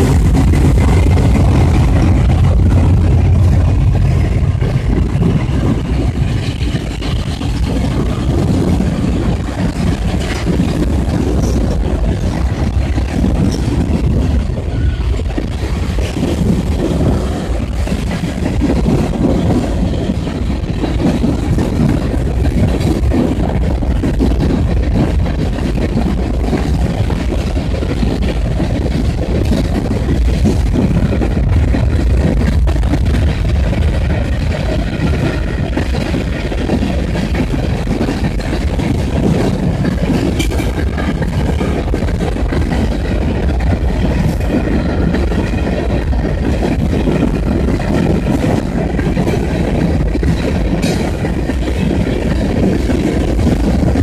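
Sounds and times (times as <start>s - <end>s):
diesel locomotive engine: 0.0s - 54.0s
train cars rumbling over rails: 0.0s - 54.0s.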